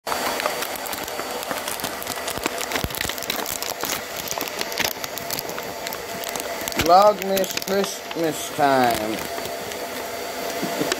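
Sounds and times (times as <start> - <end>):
plastic film crinkling: 0.1 - 10.9.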